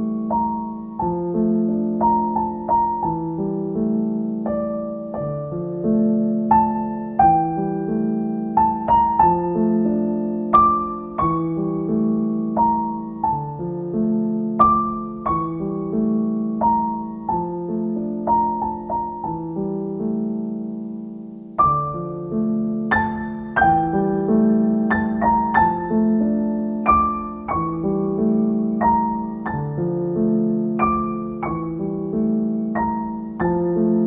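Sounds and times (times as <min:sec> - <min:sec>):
piano melody over held chords: 0:00.0 - 0:34.0.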